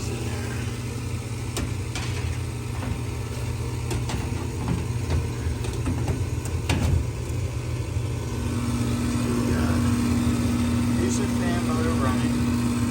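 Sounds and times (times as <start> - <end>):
low motor hum: 0.0 - 12.9.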